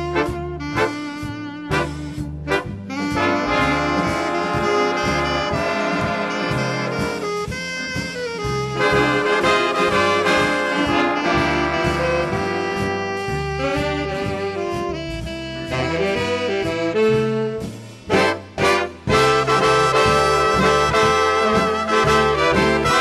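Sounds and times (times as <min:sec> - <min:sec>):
jazz brass horns: 0:00.0 - 0:23.0
steady bass beat: 0:00.0 - 0:23.0.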